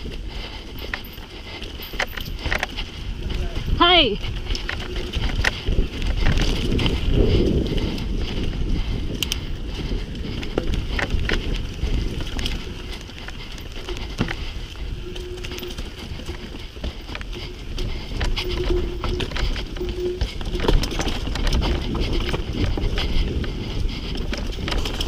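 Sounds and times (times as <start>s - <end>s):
bike clicking and rattling: 0.0s - 25.0s
bike tyres rumbling on dirt trail: 0.0s - 25.0s
wind on microphone: 0.0s - 25.0s.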